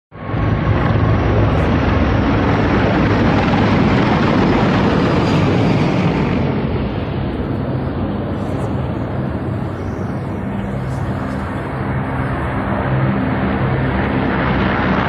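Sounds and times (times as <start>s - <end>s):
helicopters flying overhead: 0.1s - 15.0s.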